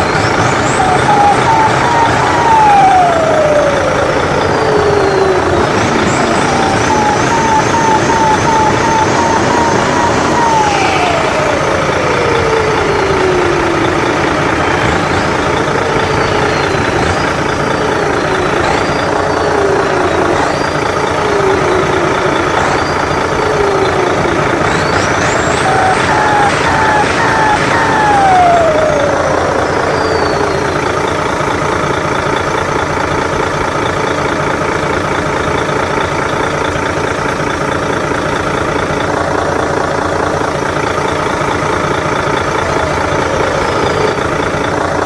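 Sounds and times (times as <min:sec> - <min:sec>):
electronic siren tones: 0:00.0 - 0:32.7, 0:36.5 - 0:45.0.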